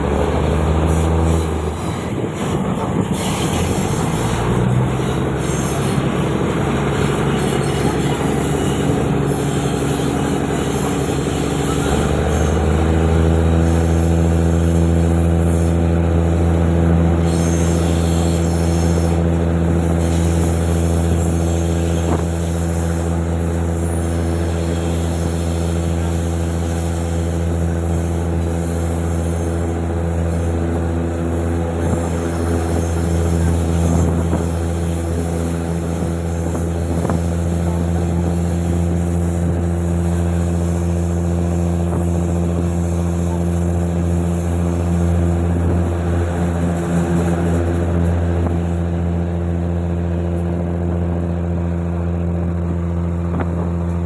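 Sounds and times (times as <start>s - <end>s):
diesel train engine running: 0.0s - 54.0s.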